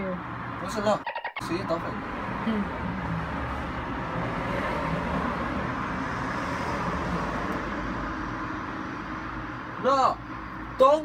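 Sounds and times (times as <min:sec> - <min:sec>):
passing cars traffic noise: 0:00.0 - 0:11.0.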